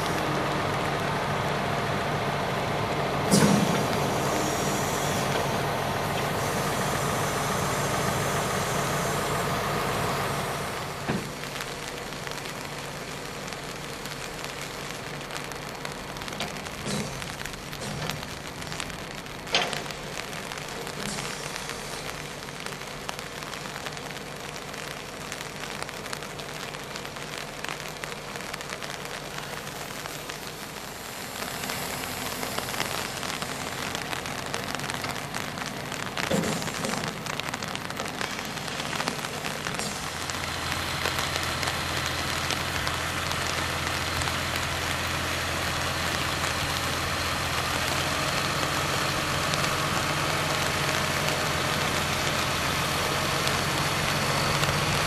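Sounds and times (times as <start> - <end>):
grader blade scraping gravel: 0.0 - 55.0
tractor engine hum: 0.0 - 55.0.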